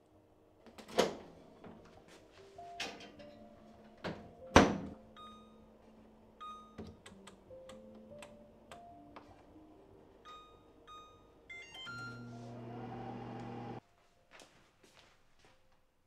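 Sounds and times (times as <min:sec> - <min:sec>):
soft background music: 0:00.0 - 0:13.1, 0:13.8 - 0:16.0.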